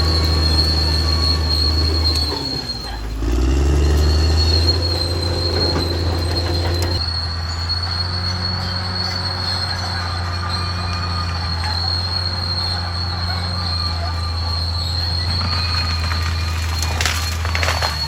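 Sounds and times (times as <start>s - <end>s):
bulldozer diesel engine droning: 0.0s - 18.0s
squealing steel tracks: 0.0s - 18.0s.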